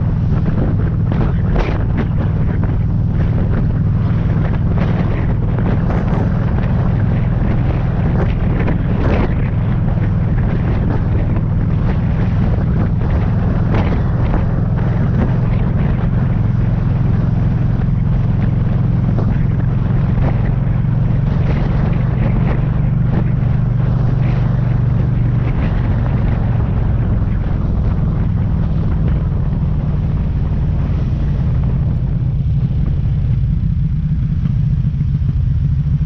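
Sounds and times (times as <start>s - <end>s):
motorcycle engine droning: 0.0s - 36.0s
wind buffeting microphone: 0.0s - 36.0s.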